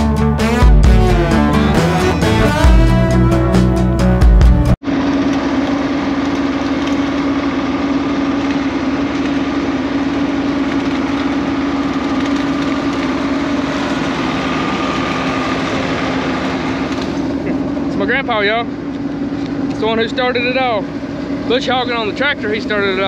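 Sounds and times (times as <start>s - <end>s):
combine harvester drone: 0.0s - 23.0s.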